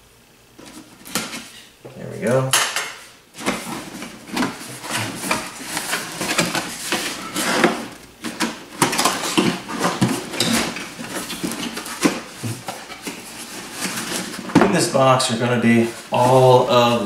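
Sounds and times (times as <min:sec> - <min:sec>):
cardboard scraping and rustling: 0:00.6 - 0:01.7, 0:03.3 - 0:17.0.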